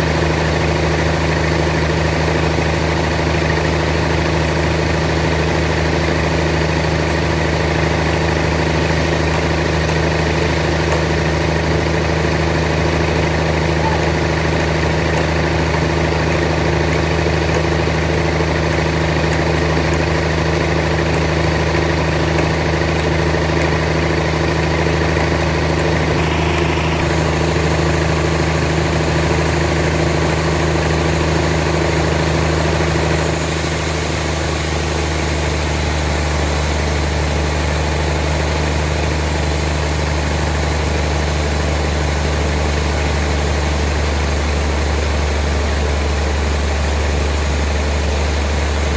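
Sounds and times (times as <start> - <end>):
sawmill machinery drone: 0.0 - 48.9.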